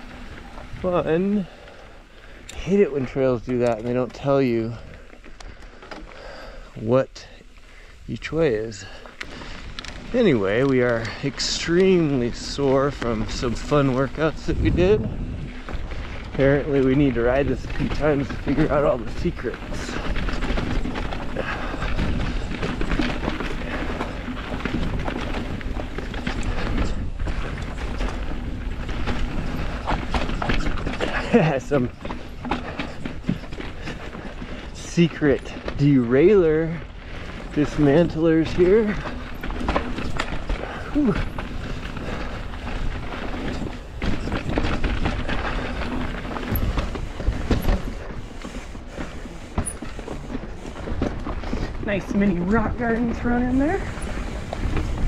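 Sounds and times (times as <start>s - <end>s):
bike clicks and rattles: 0.0s - 55.0s
bike tyre noise: 0.0s - 55.0s
wind rumbling on microphone: 8.0s - 55.0s.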